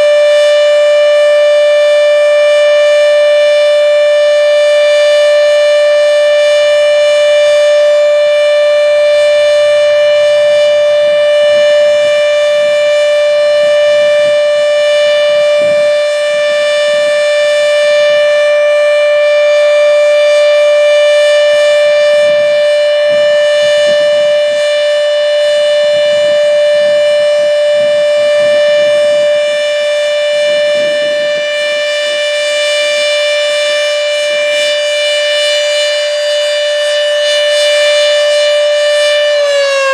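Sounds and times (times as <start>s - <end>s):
electronic siren steady tone: 0.0s - 39.9s.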